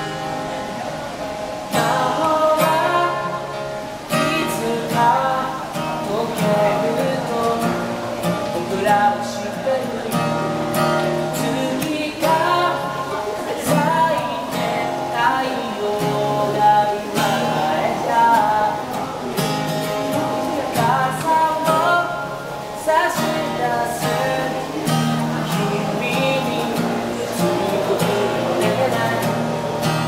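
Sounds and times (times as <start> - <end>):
acoustic guitar strumming chords: 0.0 - 30.0
man singing: 1.5 - 30.0.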